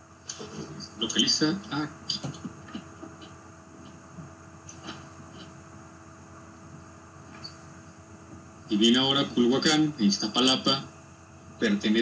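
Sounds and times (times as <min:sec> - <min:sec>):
faint electrical hum and hiss: 0:00.0 - 0:12.0.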